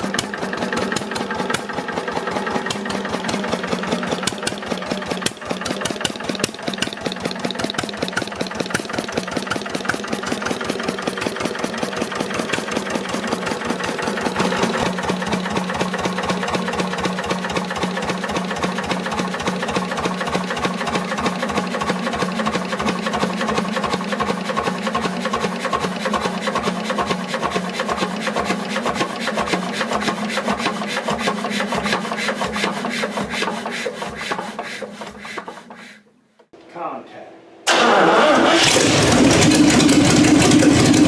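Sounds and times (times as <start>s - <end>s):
engine running steadily: 0.0s - 35.0s, 38.6s - 41.0s.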